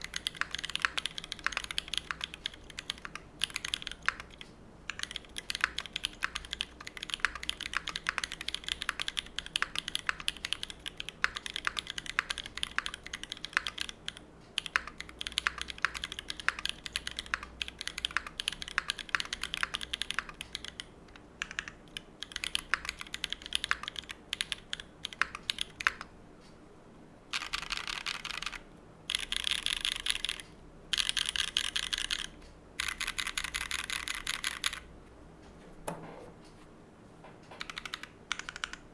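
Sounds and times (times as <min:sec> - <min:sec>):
mechanical keyboard typing: 0:00.0 - 0:26.1, 0:27.3 - 0:34.9, 0:37.5 - 0:38.9.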